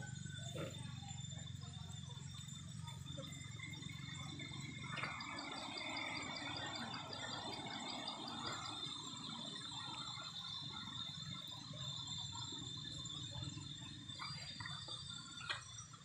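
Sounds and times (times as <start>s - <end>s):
faint rapid chirping: 0.0s - 16.0s
high-pitched insect drone: 0.0s - 16.0s.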